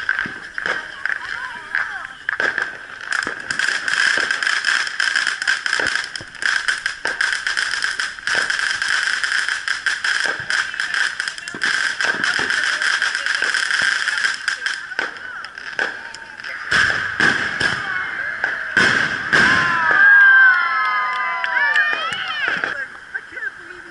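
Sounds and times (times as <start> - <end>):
fireworks crackling: 0.0 - 23.9
loud fireworks cracks: 0.0 - 23.9
steady hiss: 0.0 - 23.9.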